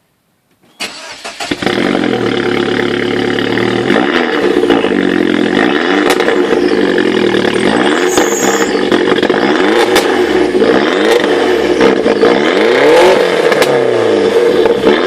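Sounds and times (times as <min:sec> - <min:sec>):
car engine starting: 0:00.7 - 0:15.0
engine throttle blips: 0:00.8 - 0:15.0
car engine idling loudly: 0:01.6 - 0:15.0.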